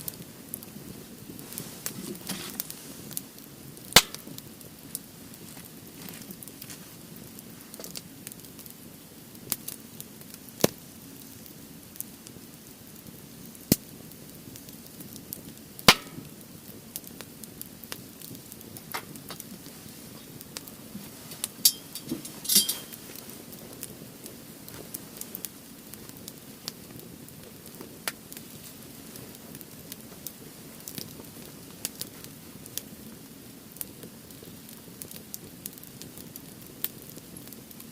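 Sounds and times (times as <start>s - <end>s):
sharp fire pops: 0.0s - 8.7s, 9.4s - 37.9s
firewood crackling: 0.0s - 37.9s.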